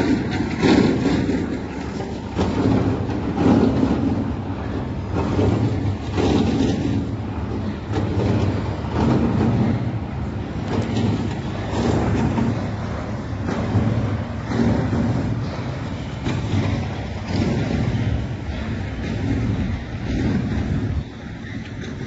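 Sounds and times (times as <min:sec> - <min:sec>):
irregular knocks and bumps: 0:00.0 - 0:22.0
low mechanical rumble: 0:00.0 - 0:22.0.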